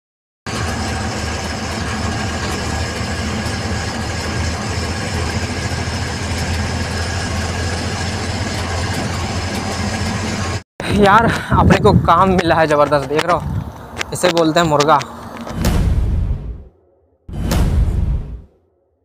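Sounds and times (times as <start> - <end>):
truck engine running: 0.5 - 16.7.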